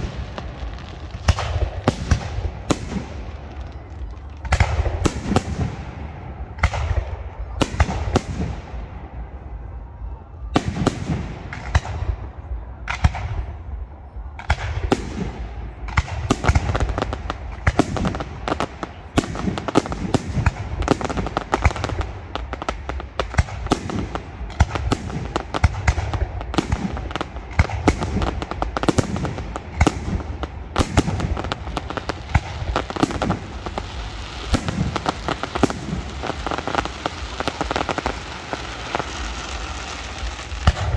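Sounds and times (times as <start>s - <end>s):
fireworks crackling: 0.0s - 9.2s, 14.4s - 40.9s.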